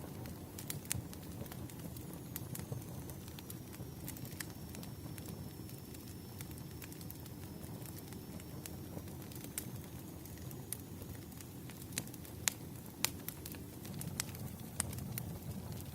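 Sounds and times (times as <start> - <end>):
low rumble of burning logs: 0.0 - 15.9
wood fire popping and snapping: 0.0 - 15.9.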